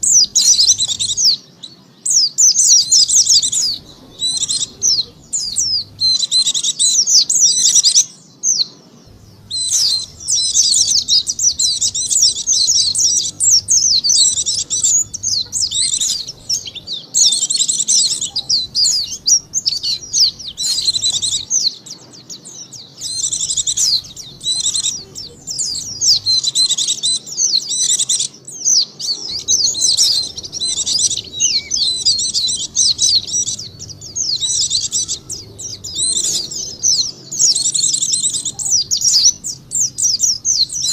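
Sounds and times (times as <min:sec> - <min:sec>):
bird twittering chirps: 0:00.0 - 0:40.9.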